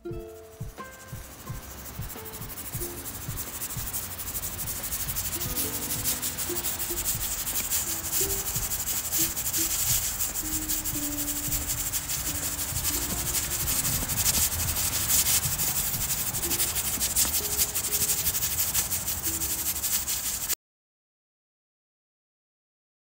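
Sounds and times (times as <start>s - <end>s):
pressure cooker hissing: 0.4s - 20.6s.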